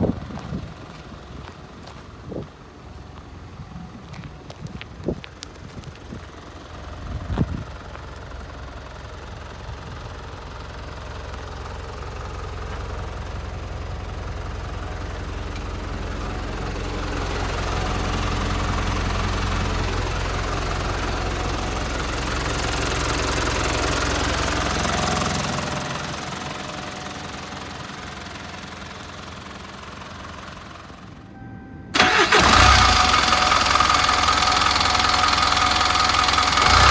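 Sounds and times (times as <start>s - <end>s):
truck diesel engine running: 0.0s - 36.9s.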